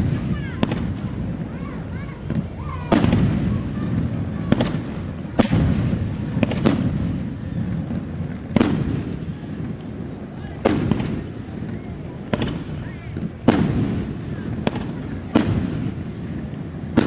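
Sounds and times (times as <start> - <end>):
fireworks bangs: 0.0 - 17.0
low rumble of fireworks bursts: 0.0 - 17.0.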